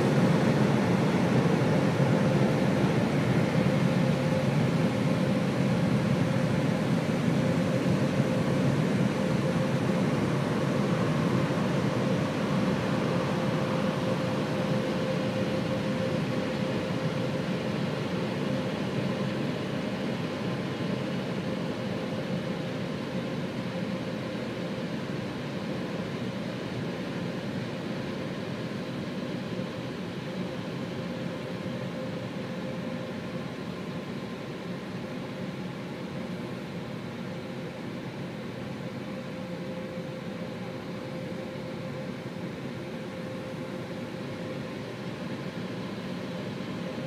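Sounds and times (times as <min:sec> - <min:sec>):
faint steady whine: 0:00.0 - 0:47.0.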